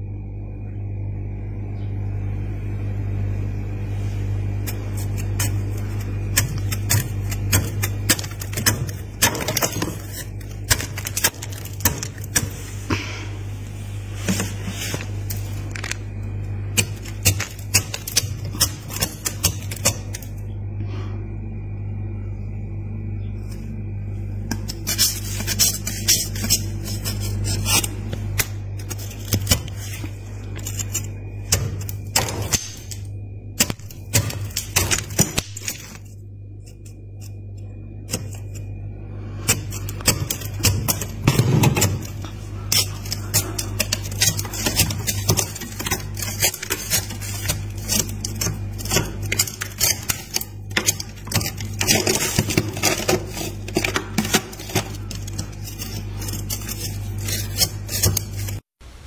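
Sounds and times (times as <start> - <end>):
steady low hum: 0.0 - 59.0
metal scraper scraping frost: 3.9 - 16.0, 16.8 - 20.3, 24.5 - 58.7.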